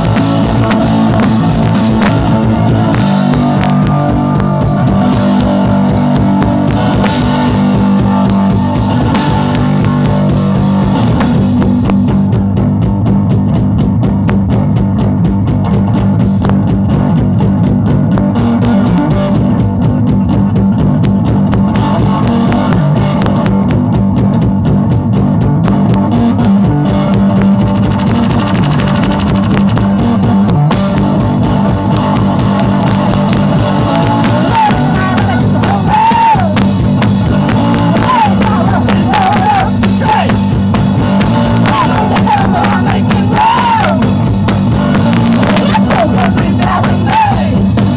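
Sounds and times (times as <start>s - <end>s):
drum kit beat: 0.0s - 47.9s
electric guitar: 0.0s - 47.9s.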